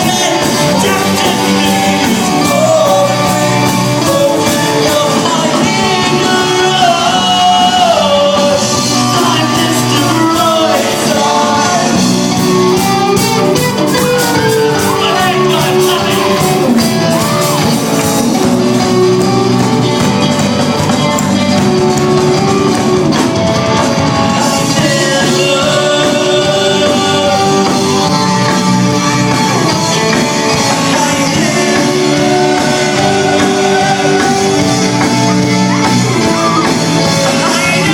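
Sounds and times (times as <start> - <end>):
person singing or shouting: 0.0 - 18.1, 24.3 - 37.9
guitar: 0.0 - 37.9
live rock band: 0.0 - 37.9.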